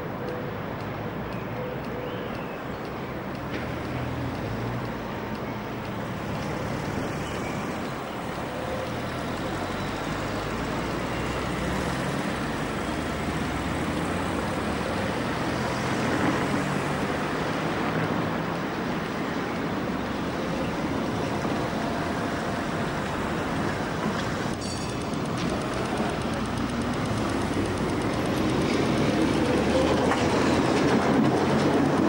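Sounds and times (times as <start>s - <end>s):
city traffic: 0.0s - 32.0s
tram running on track: 0.0s - 32.0s.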